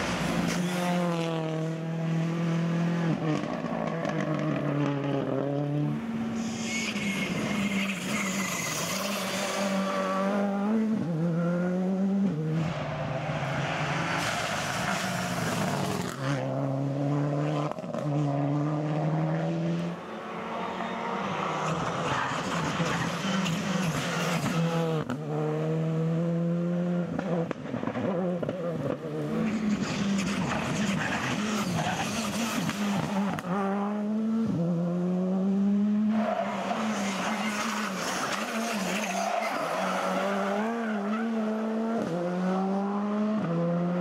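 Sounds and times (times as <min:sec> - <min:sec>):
rally car engines at full throttle: 0:00.0 - 0:44.0.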